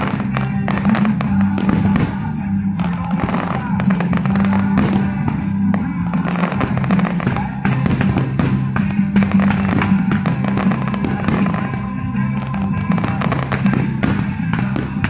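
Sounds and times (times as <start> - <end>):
fireworks bursting and crackling: 0.0 - 15.0
music with steady bass line: 0.0 - 15.0.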